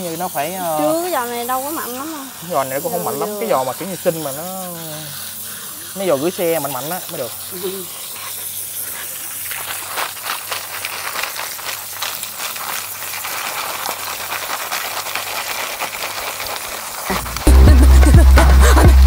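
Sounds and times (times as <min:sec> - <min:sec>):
hose water jet hissing: 0:00.0 - 0:19.0.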